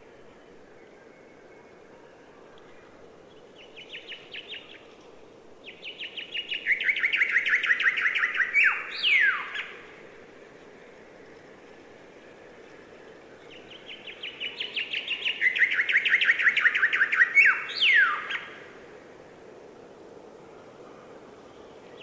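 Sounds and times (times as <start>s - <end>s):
songbird singing: 0.0s - 19.3s, 19.9s - 22.0s.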